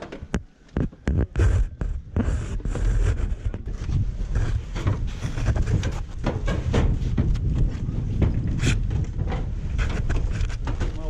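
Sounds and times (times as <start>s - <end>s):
low handling rumble: 0.4s - 11.0s
mesh hood rubbing on microphone: 0.8s - 11.0s.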